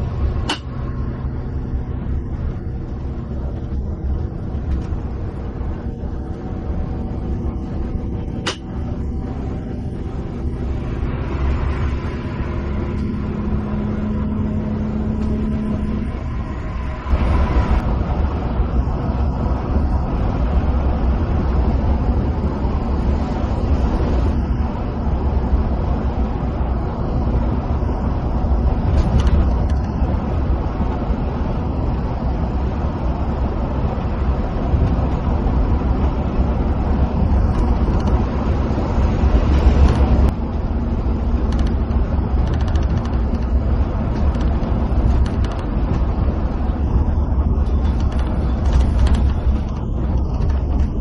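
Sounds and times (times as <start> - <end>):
bus engine drone: 0.0 - 51.0.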